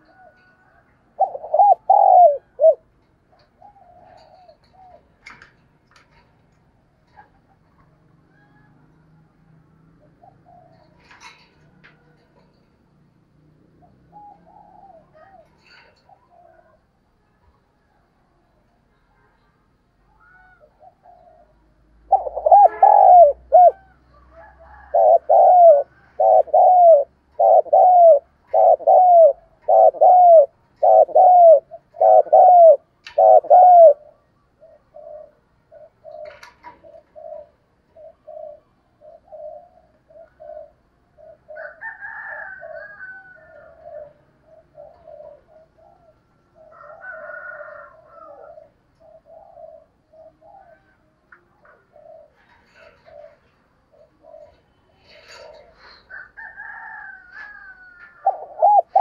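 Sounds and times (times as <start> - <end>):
dove cooing: 0.0 - 12.9, 13.6 - 17.5, 20.1 - 59.0.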